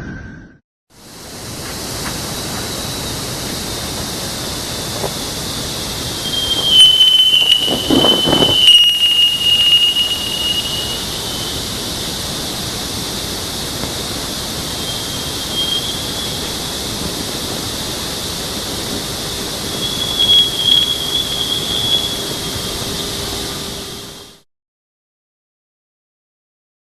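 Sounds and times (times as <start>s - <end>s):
static hiss: 1.0s - 24.4s
thin high whistle: 1.1s - 24.4s.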